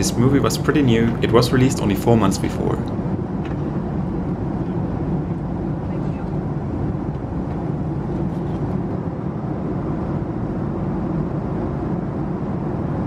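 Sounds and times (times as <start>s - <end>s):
airplane cabin noise: 0.0s - 13.0s.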